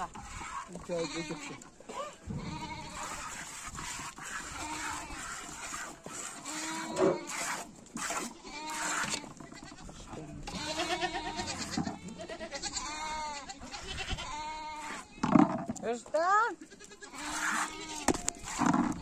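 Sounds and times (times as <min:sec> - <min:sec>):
goats bleating: 0:00.0 - 0:15.2, 0:16.4 - 0:19.0.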